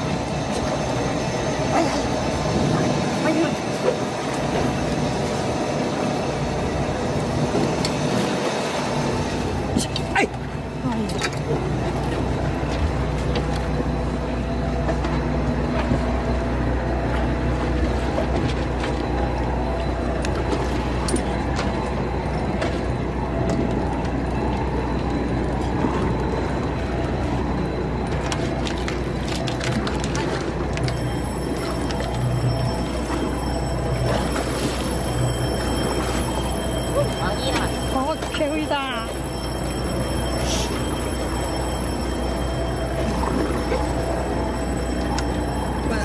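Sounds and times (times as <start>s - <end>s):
boat engine droning: 0.0s - 46.0s
sea water splashing: 0.0s - 46.0s.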